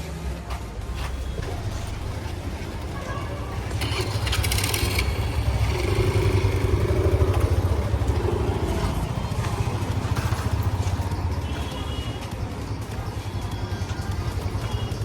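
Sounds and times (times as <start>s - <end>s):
motorcycle engine running: 0.5s - 15.0s.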